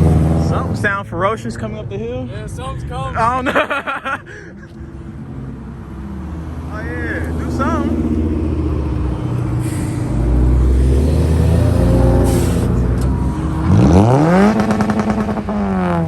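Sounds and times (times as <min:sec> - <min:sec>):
car engine revving: 0:00.0 - 0:04.0, 0:04.6 - 0:16.0.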